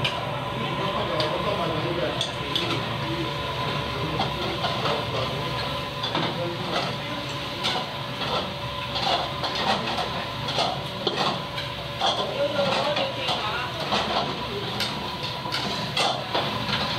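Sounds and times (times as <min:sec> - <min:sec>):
cooking range and extractor roar: 0:00.0 - 0:16.9.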